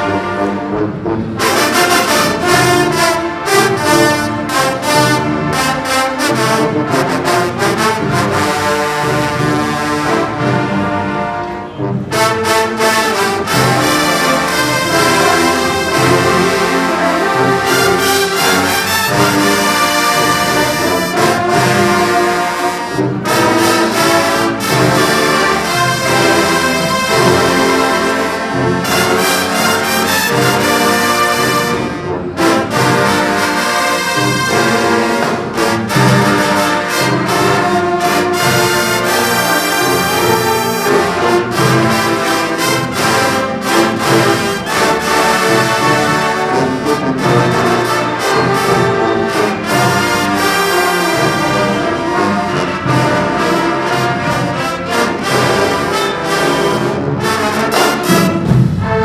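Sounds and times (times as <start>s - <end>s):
trumpets and trombones chords: 0.0s - 59.0s.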